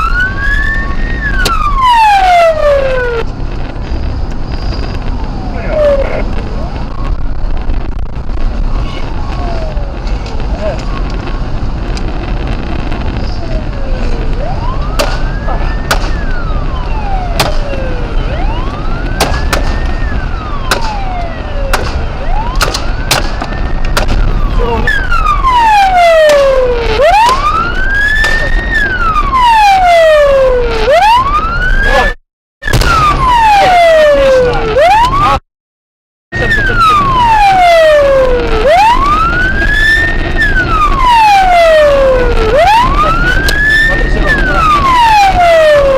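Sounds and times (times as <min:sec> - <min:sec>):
police siren wailing: 0:00.0 - 0:03.7, 0:04.5 - 0:35.4, 0:36.4 - 0:45.9
vehicle rumble: 0:00.0 - 0:35.4, 0:36.3 - 0:45.9.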